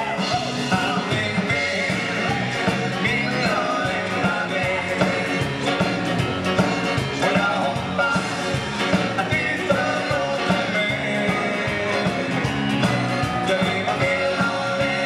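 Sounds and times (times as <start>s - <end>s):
live band with steady beat: 0.0s - 15.0s
person singing: 0.0s - 15.0s.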